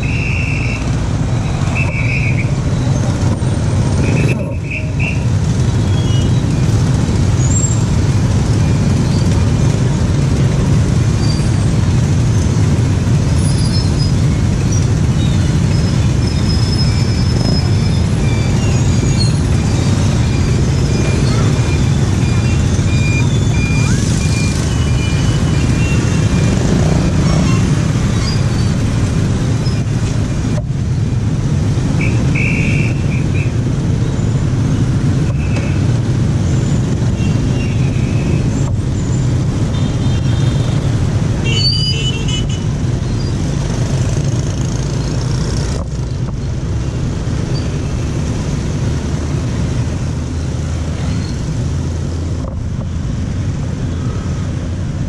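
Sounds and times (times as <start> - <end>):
street traffic rumble: 0.0 - 55.0.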